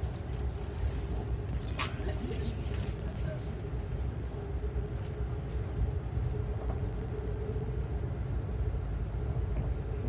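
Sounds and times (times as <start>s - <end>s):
train rumble inside coach: 0.0s - 10.0s.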